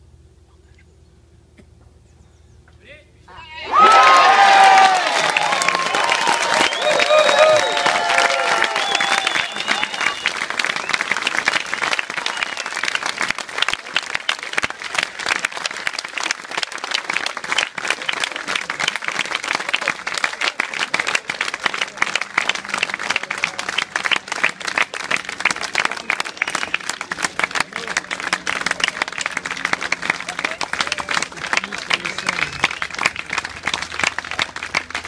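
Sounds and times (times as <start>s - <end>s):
large crowd applauding: 3.7s - 35.0s.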